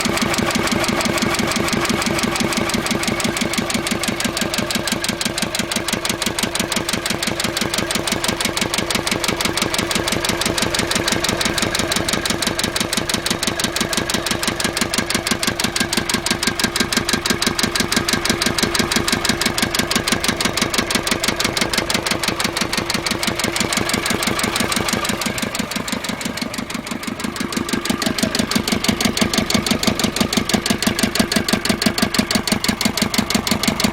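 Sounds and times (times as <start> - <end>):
diesel engine idling with knock: 0.0 - 33.9.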